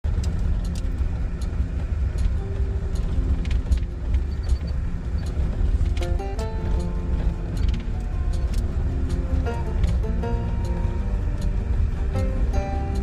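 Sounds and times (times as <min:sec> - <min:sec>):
traffic rumble: 0:00.0 - 0:13.0
musical notes: 0:00.2 - 0:13.0.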